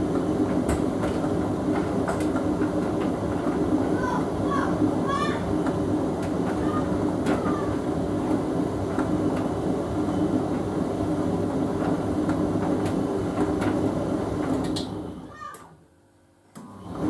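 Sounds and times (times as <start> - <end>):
tumble dryer humming: 0.0 - 15.6.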